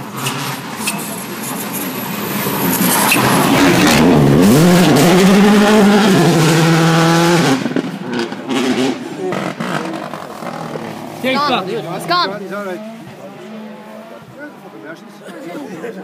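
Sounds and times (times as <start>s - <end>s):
rally car engine passing: 0.1s - 15.3s.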